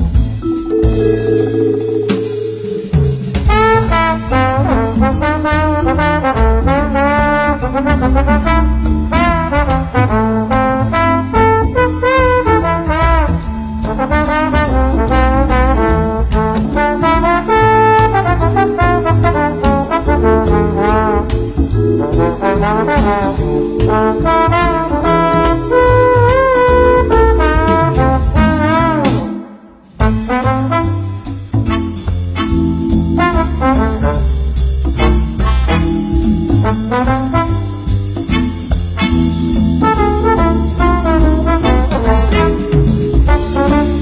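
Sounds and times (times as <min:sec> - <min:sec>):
upbeat brass music: 0:00.0 - 0:44.0.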